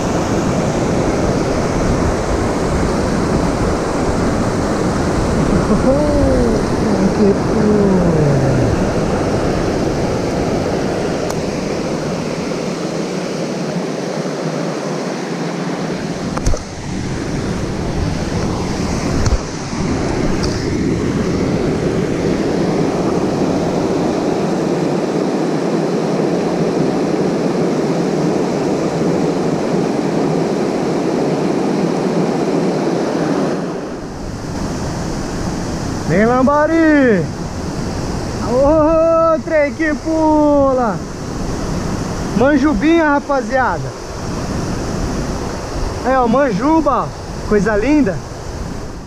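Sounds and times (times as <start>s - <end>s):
waterfall and rapids rushing: 0.0s - 49.0s.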